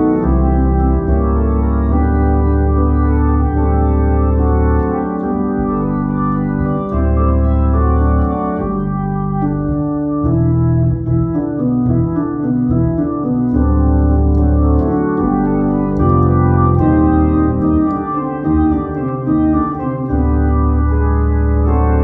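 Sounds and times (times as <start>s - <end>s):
bass line: 0.0s - 22.0s
organ playing held chords: 0.0s - 22.0s.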